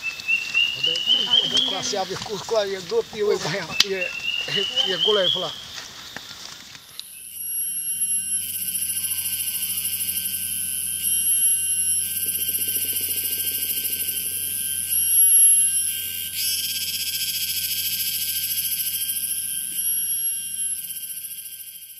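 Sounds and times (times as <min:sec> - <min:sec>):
insects droning: 0:00.0 - 0:21.9.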